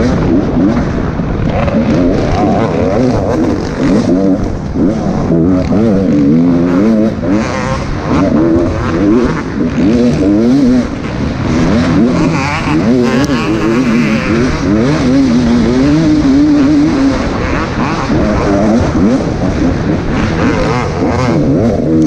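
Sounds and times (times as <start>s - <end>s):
race vehicle engine revving: 0.0s - 22.0s.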